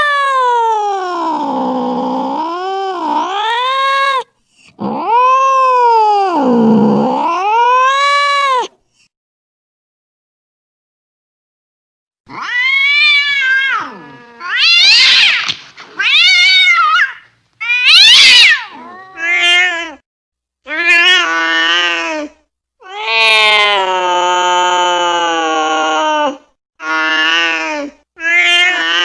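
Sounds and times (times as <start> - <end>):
angry cat yowling: 0.0 - 8.7, 12.3 - 20.0, 20.7 - 29.0.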